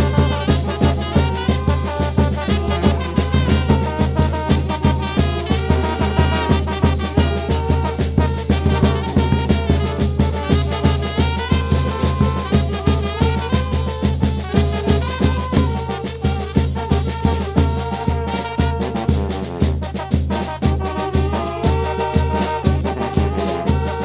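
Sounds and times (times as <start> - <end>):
brass band playing upbeat tune: 0.0 - 24.0.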